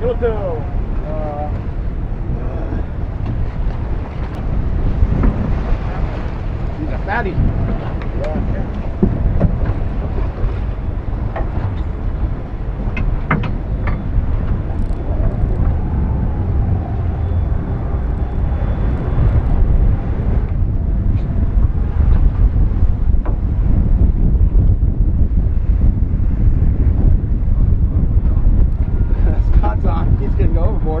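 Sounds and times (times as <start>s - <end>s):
choppy sea: 0.0s - 31.0s
wind buffeting microphone: 0.0s - 31.0s.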